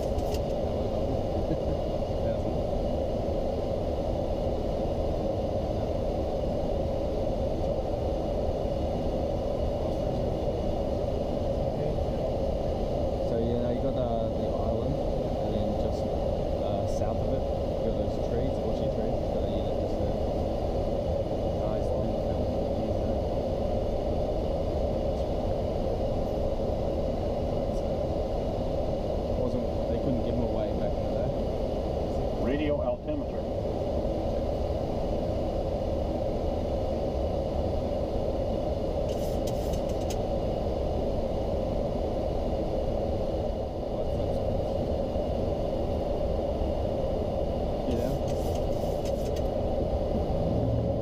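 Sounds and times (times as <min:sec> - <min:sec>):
airliner cockpit rushing noise: 0:00.0 - 0:51.0
steady hum: 0:00.0 - 0:51.0.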